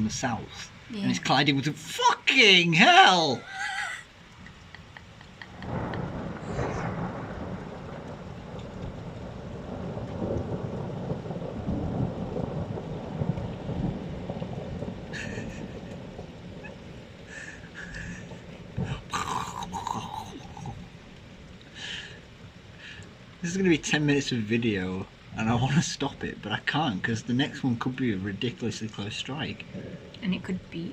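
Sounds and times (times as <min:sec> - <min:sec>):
heavy rain: 0:00.0 - 0:30.9
thunder rumbling: 0:03.3 - 0:30.9.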